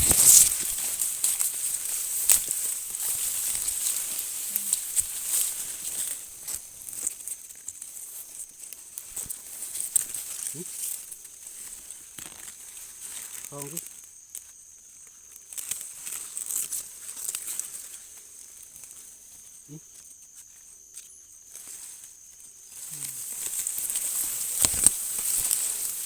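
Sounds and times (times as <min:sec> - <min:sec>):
dry leaves rustling underfoot: 0:00.0 - 0:26.0.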